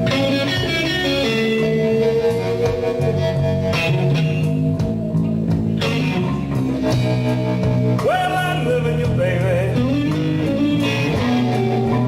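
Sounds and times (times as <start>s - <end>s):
bass: 0.0s - 12.0s
slide guitar lead: 0.0s - 12.0s
sustained chords: 0.0s - 12.0s.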